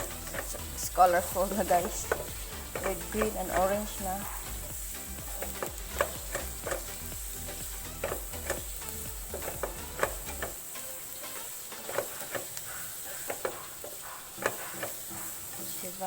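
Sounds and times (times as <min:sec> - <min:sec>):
spatula scraping pan: 0:00.0 - 0:10.6, 0:11.2 - 0:16.0
rice sizzling in a frying pan: 0:00.0 - 0:16.0.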